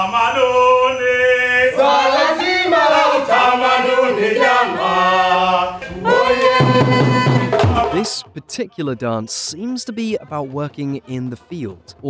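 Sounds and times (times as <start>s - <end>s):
voices singing a chant: 0.0s - 12.0s.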